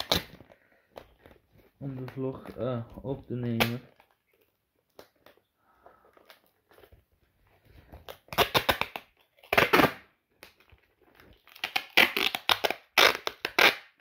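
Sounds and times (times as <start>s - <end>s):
crackly tearing and crinkling: 0.0s - 14.0s.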